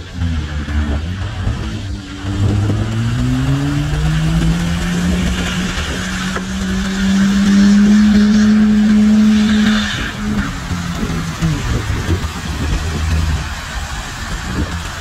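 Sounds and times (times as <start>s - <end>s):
car engine revving: 0.0s - 15.0s
tyres spinning on snow: 0.0s - 15.0s.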